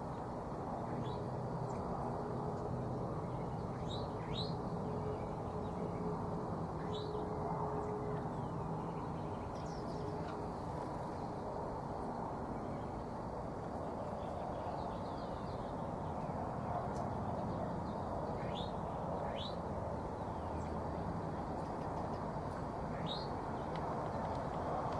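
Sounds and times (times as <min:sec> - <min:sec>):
outdoor background noise: 0:00.0 - 0:24.9.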